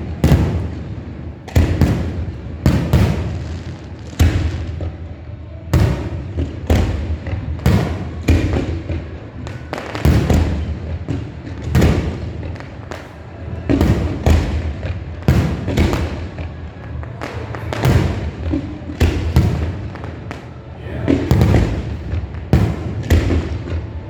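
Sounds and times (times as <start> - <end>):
fireworks bursting with echoes: 0.0 - 24.0.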